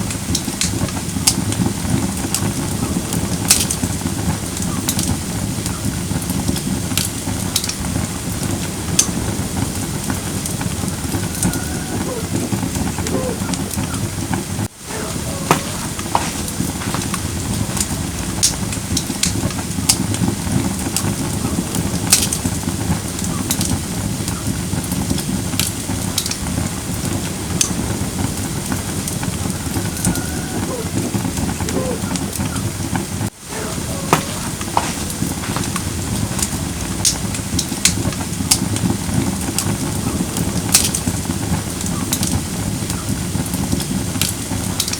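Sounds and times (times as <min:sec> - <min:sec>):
fire rushing: 0:00.0 - 0:44.9
wood crackling and popping: 0:00.0 - 0:44.9.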